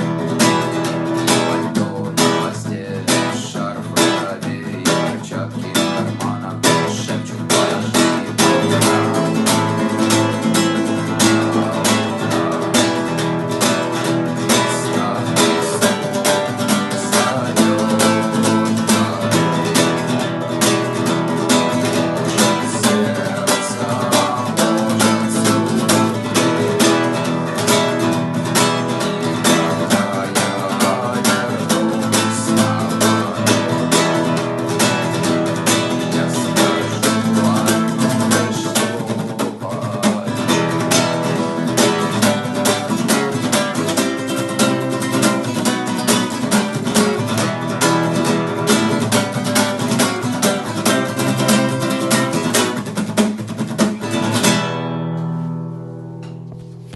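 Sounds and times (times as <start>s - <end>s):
acoustic guitar strumming: 0.0s - 56.9s.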